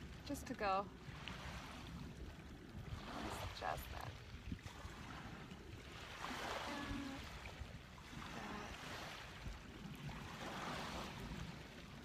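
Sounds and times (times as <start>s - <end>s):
low wind rumble: 0.0s - 12.0s
small waves washing on beach: 0.0s - 12.0s.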